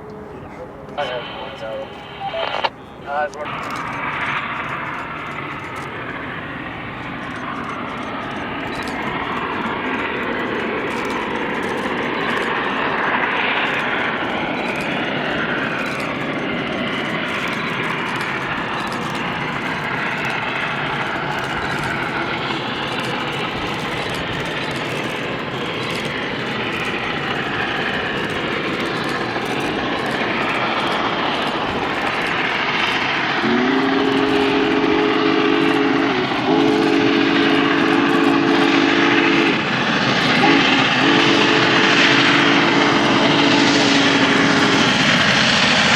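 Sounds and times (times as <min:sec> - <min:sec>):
moving train noise: 0:00.0 - 0:45.9.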